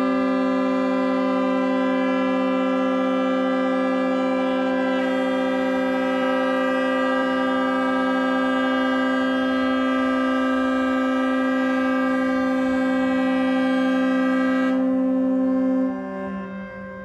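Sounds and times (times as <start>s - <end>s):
barge horns blasting: 0.0s - 17.0s.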